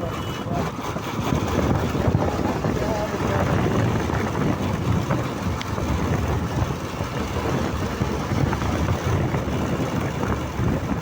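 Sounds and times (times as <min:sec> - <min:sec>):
motorcycle engine: 0:00.0 - 0:11.0
road noise: 0:00.0 - 0:11.0
wind buffeting microphone: 0:00.0 - 0:11.0.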